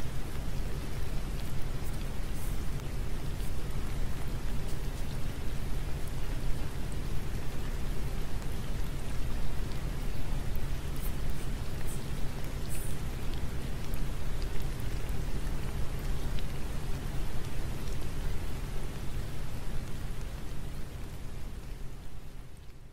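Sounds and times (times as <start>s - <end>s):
steady rain falling: 0.0s - 22.9s.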